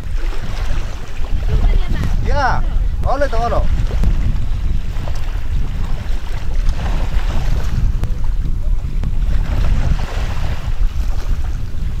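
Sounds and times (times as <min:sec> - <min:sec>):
sea washing: 0:00.0 - 0:12.0
wind buffeting microphone: 0:00.0 - 0:12.0.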